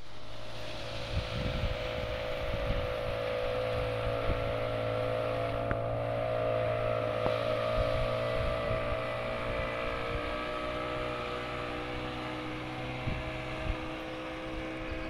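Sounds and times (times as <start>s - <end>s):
boat engine droning: 0.0s - 15.0s
wind buffeting microphone: 0.2s - 15.0s.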